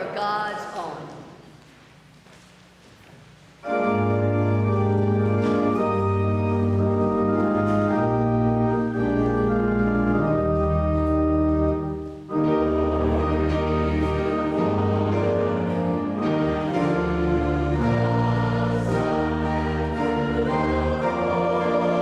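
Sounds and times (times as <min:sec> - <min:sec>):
church organ chords: 0:03.6 - 0:22.0.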